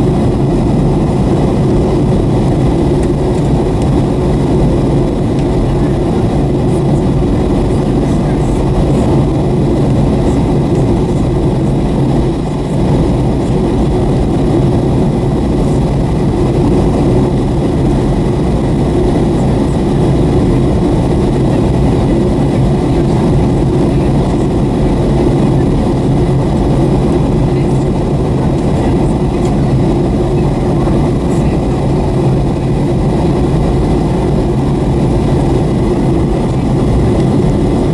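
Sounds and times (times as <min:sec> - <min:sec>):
jet cabin roar: 0:00.0 - 0:37.9.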